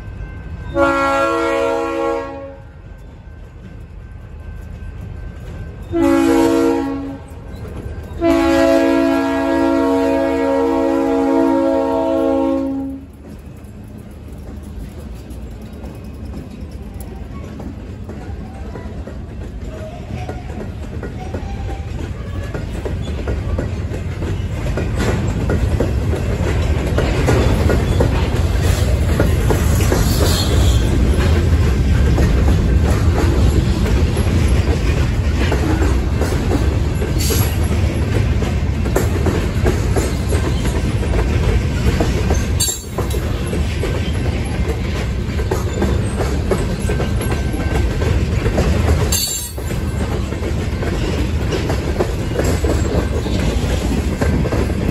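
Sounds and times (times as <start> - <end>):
freight train wheels rumbling on rails: 0.0 - 54.9.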